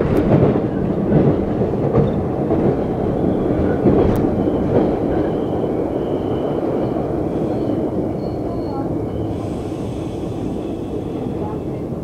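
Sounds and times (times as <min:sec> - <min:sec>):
subway car rumbling on rails: 0:00.0 - 0:12.0.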